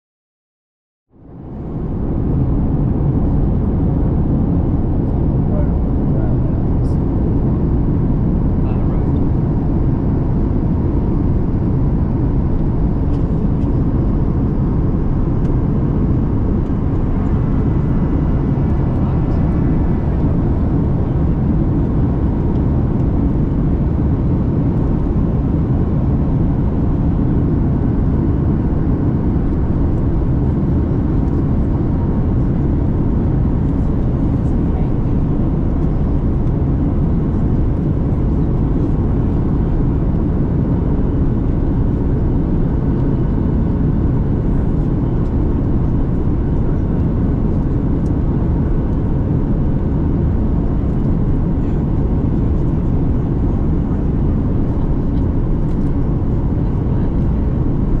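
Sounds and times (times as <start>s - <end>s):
aircraft cabin engine rumble: 1.1s - 58.0s.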